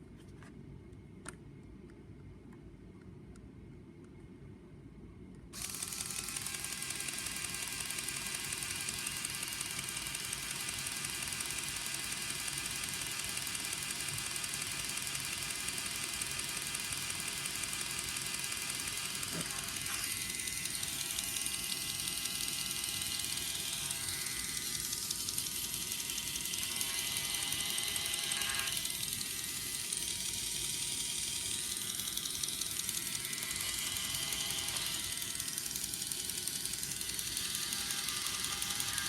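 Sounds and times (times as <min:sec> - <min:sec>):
plastic gears clicking and rattling: 0:05.6 - 0:39.0
steady whirr: 0:05.6 - 0:39.0.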